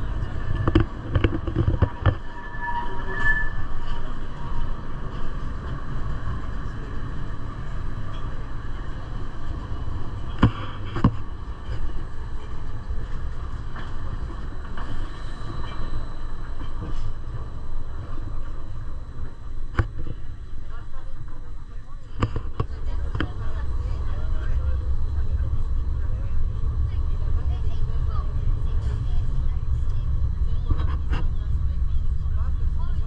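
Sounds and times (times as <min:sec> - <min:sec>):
train rumbling: 0:00.0 - 0:33.0.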